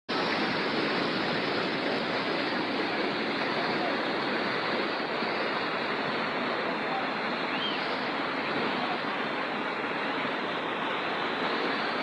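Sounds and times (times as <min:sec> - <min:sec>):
floodwater rushing: 0:00.1 - 0:12.0.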